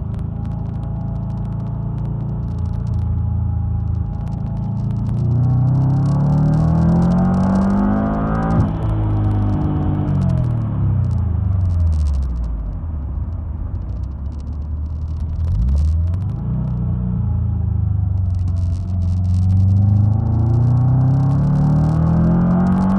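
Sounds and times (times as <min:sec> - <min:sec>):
car engine revving: 0:00.0 - 0:13.2, 0:13.8 - 0:22.9.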